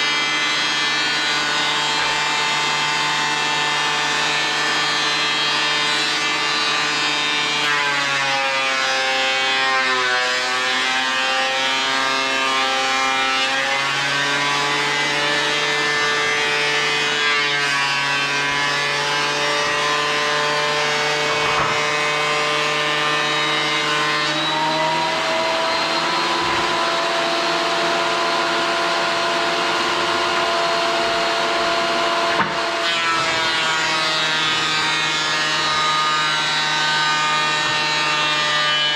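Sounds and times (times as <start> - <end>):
power tool cutting wood: 0.0 - 38.9.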